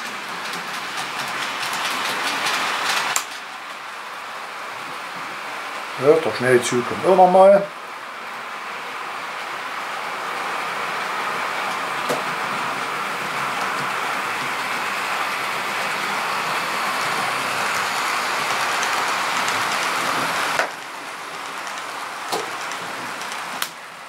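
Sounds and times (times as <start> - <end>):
model train wheels on rails: 0.0 - 24.0.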